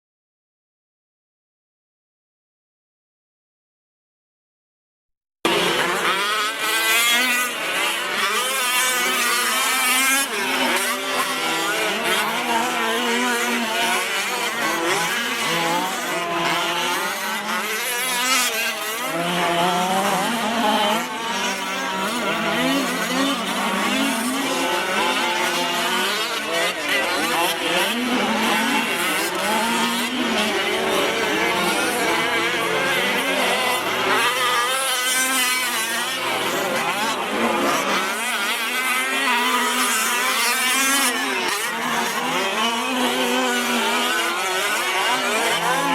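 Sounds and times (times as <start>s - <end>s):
small two-stroke engines revving: 5.5s - 45.9s.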